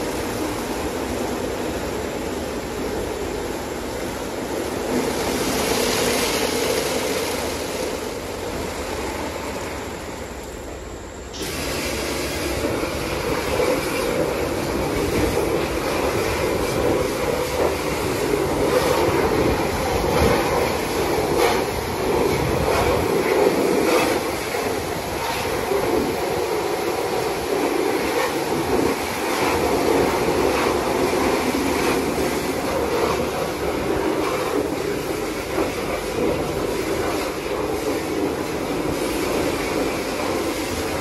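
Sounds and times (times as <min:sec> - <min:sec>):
rushing water: 0:00.0 - 0:10.2, 0:11.4 - 0:41.0
car wash machinery: 0:00.0 - 0:41.0.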